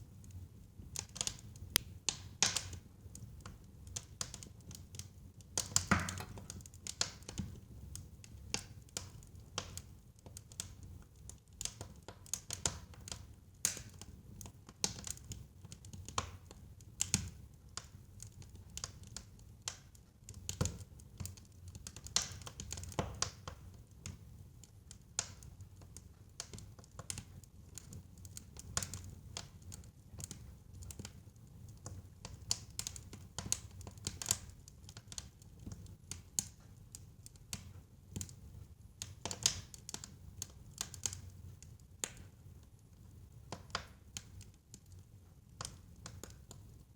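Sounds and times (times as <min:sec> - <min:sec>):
fire crackling and popping: 0:00.1 - 0:46.9.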